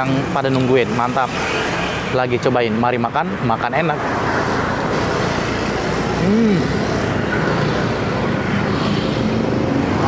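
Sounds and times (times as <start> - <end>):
motorcycles and cars passing: 0.0 - 10.0.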